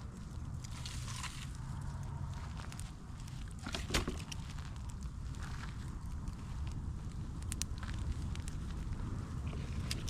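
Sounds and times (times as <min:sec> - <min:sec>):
campfire rumble: 0:00.0 - 0:10.0
fire crackles and pops: 0:00.0 - 0:10.0.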